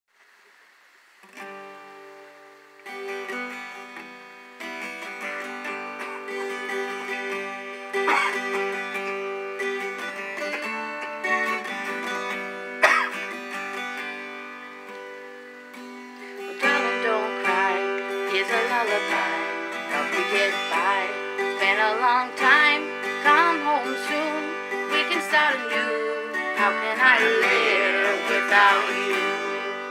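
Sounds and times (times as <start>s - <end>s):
acoustic guitar strumming chords: 1.2s - 29.9s.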